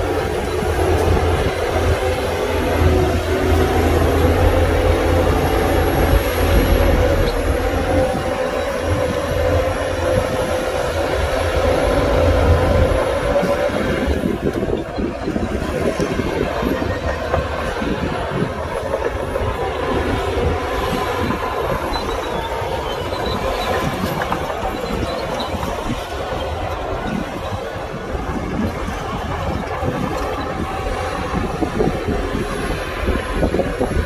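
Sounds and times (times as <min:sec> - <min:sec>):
diesel engine drone: 0:00.0 - 0:34.0.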